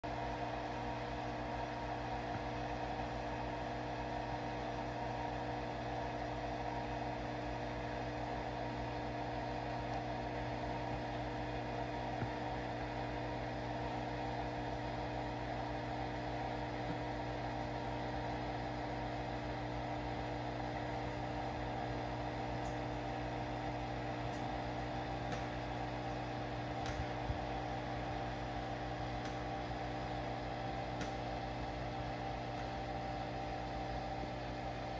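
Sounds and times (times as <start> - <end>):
aquarium equipment humming: 0.0 - 34.9.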